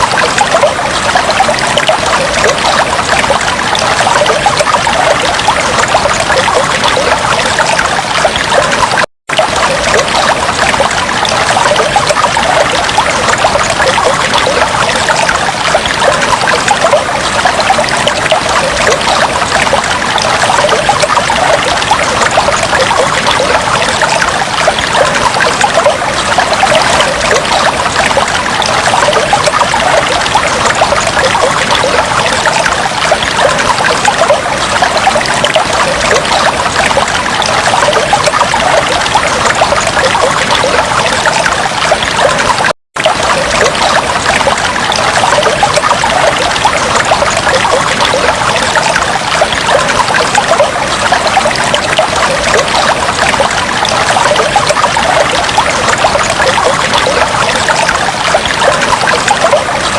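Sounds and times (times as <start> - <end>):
aquarium water trickling and bubbling: 0.0 - 59.9.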